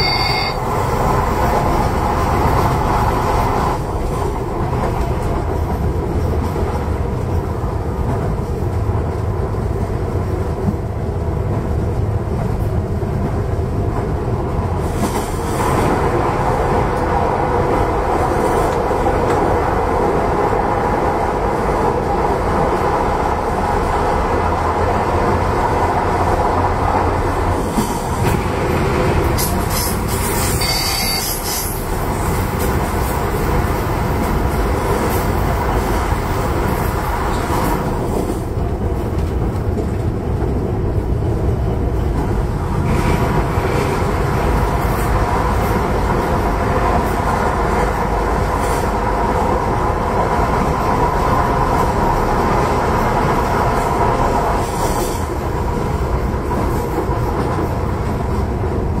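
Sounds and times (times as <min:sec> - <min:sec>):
train rumbling in tunnel: 0:00.0 - 0:59.0
wheels clacking on track: 0:00.0 - 0:59.0.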